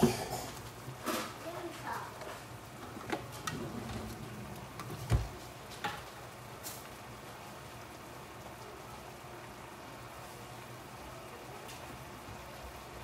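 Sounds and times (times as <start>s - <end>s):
chicken sizzling in a skillet: 0.0s - 3.4s, 4.5s - 13.0s.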